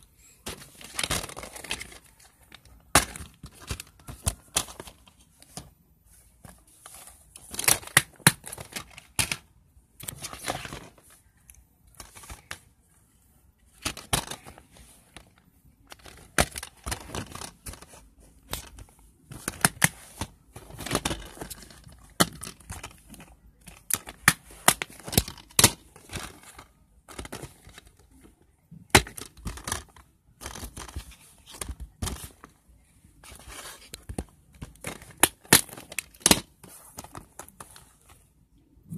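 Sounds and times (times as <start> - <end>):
plastic cases clicking and scraping: 0.0 - 38.9.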